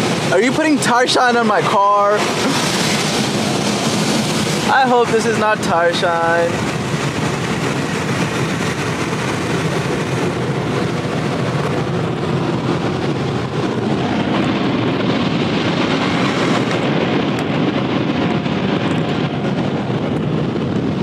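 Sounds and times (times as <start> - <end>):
car wash rushing noise: 0.0 - 21.0.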